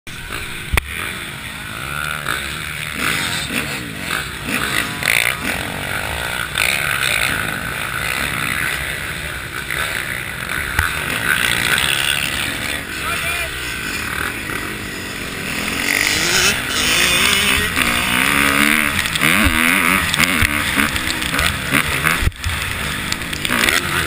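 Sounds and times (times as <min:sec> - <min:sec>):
dirt bikes revving: 0:00.1 - 0:24.0.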